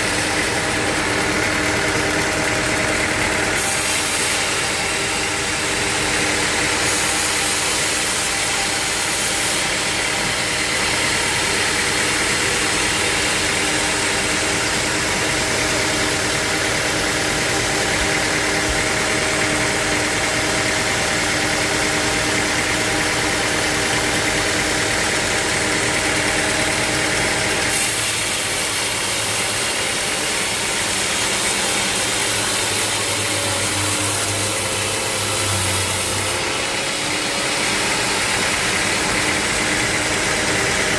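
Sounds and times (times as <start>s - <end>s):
sawmill motor hum: 0.0s - 40.9s.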